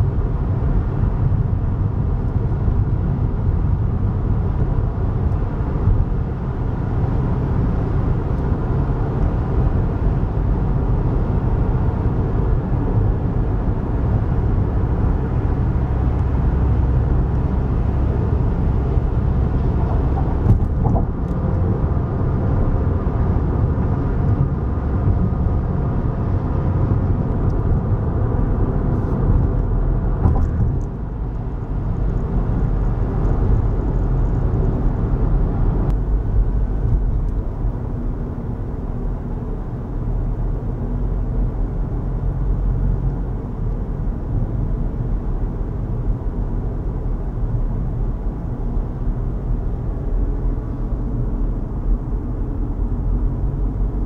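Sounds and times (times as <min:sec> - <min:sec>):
tyre and engine rumble: 0:00.0 - 0:54.0.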